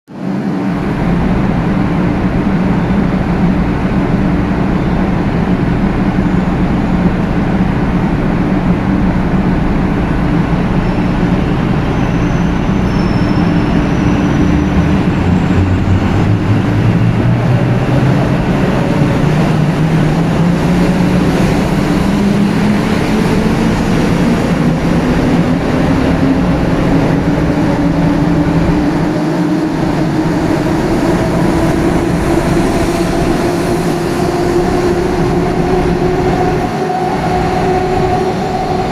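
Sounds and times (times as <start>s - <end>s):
train electric hum: 0.1s - 38.9s.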